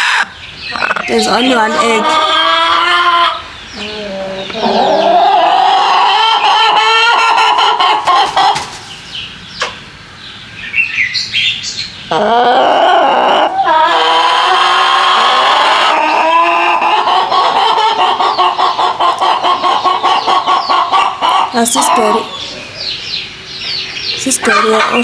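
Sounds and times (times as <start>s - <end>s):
hens cackling and squawking: 0.0s - 9.9s, 12.0s - 25.0s.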